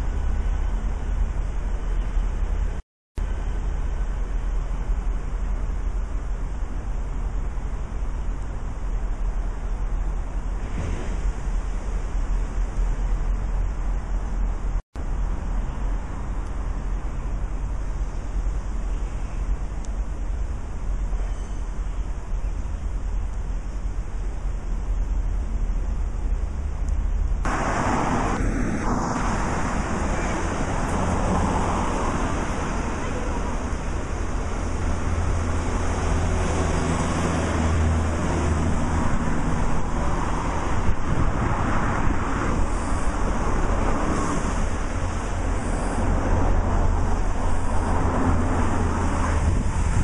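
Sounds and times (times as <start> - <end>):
road traffic hiss: 0.0 - 50.0
wind rumbling on microphone: 0.0 - 50.0.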